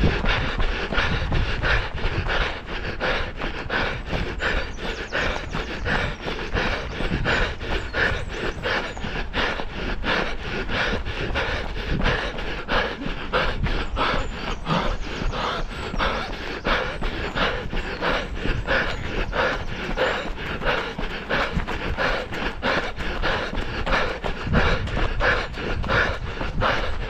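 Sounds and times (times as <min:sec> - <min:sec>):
heavy panting breaths: 0:00.0 - 0:27.0
running footfalls: 0:00.0 - 0:27.0.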